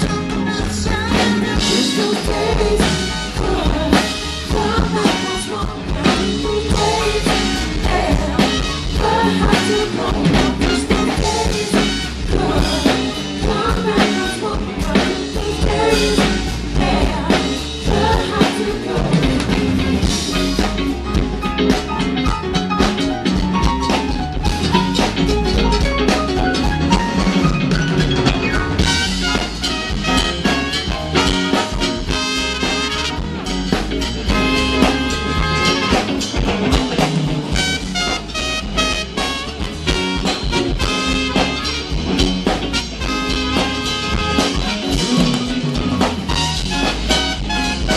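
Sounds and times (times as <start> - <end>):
drum kit and percussion beat: 0.0 - 47.9
live band playing: 0.0 - 47.9.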